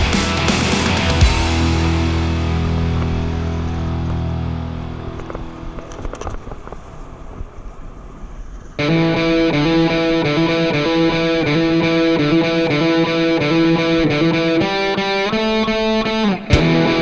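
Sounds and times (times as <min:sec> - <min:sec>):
rock music with electric guitar: 0:00.0 - 0:06.9, 0:08.8 - 0:17.0.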